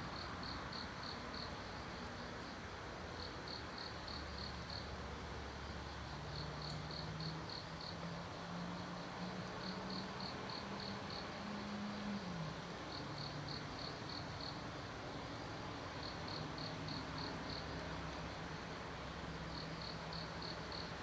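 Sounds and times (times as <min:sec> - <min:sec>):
crickets chirping: 0:00.0 - 0:21.0
steady outdoor hiss: 0:00.0 - 0:21.0.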